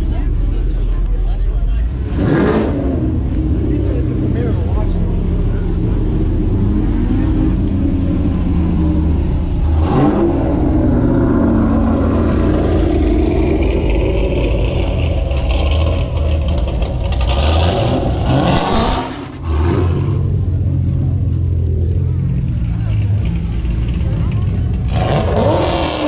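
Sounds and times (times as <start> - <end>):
car engine at low revs: 0.0 - 26.0
engine and road noise rush: 0.0 - 26.0.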